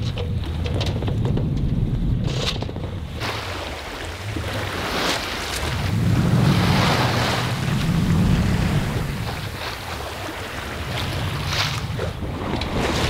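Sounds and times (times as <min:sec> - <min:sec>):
sea water rushing along hull: 0:00.0 - 0:13.0
wind buffeting microphone: 0:00.0 - 0:13.0.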